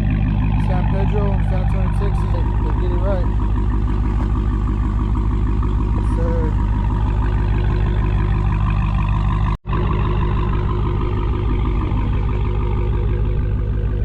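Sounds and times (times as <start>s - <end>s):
car engine idling burble: 0.0s - 14.0s.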